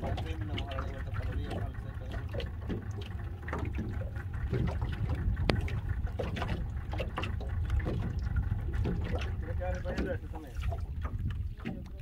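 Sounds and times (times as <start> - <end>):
steady low rumble: 0.0 - 12.0
water lapping against boat hull: 0.0 - 12.0.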